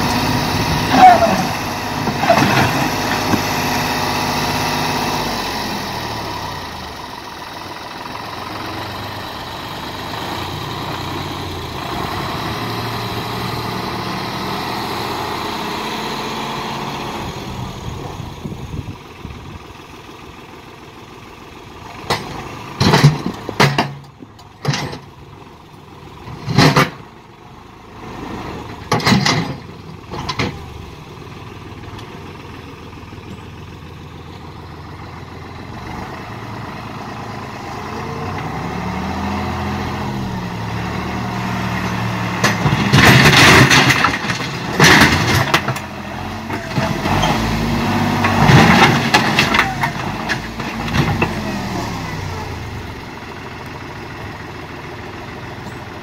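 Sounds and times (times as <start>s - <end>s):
tractor diesel engine: 0.0s - 56.0s.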